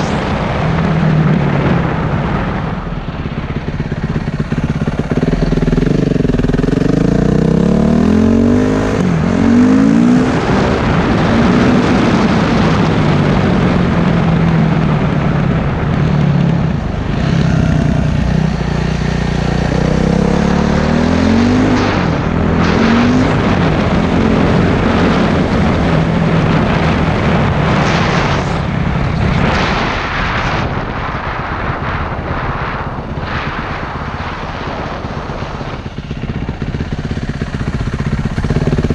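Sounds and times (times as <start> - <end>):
motorcycle engine revving: 0.0 - 38.9
steady rushing noise: 0.0 - 38.9.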